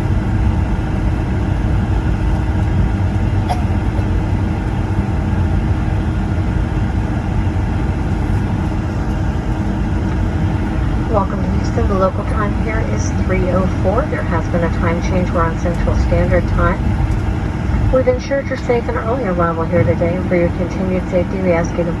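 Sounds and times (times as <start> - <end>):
airliner engines rumbling in cabin: 0.0 - 22.0.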